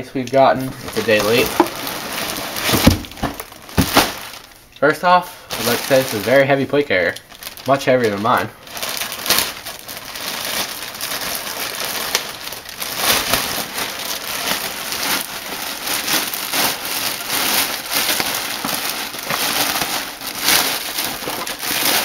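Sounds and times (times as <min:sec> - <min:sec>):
plastic bag crinkling: 0:00.2 - 0:04.6, 0:05.2 - 0:22.0.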